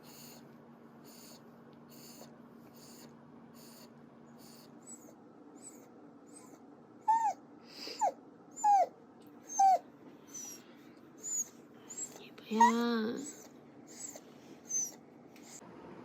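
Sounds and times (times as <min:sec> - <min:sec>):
dog whimpering: 0:01.1 - 0:10.6, 0:11.2 - 0:15.6.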